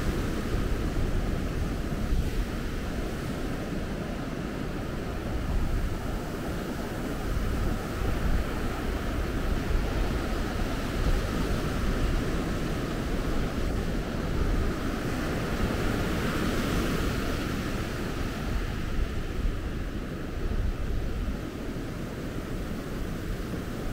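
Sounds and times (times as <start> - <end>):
wind rumble on microphone: 0.0 - 23.9.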